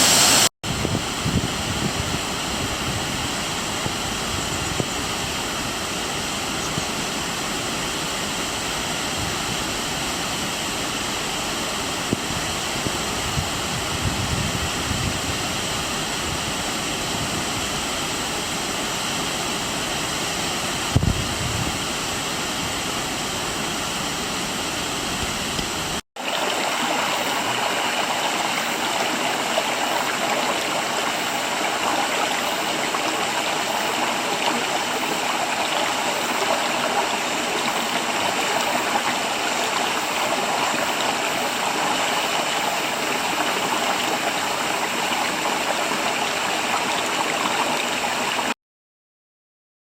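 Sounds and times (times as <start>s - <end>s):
waterfall rushing: 0.0s - 48.6s.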